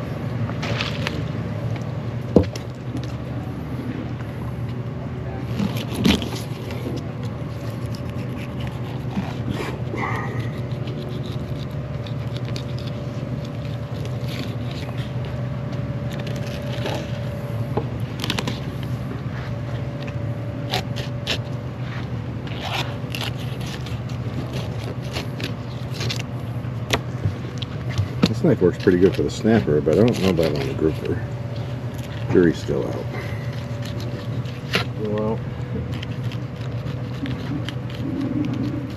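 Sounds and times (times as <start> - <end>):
steady low hum: 0.0 - 38.9
knife scraping fish: 5.5 - 17.4, 18.0 - 28.0, 28.6 - 38.9.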